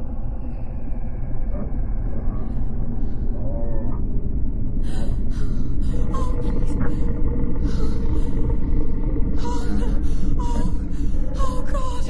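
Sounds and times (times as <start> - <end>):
deep rumbling drone: 0.0 - 12.0
wavering moan-like tones: 0.0 - 12.0.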